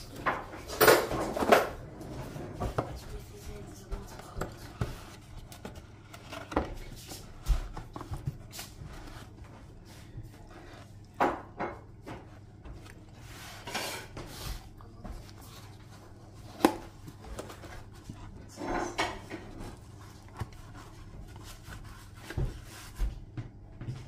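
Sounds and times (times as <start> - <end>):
cardboard rustling and scraping: 0.0 - 11.4, 12.0 - 23.3.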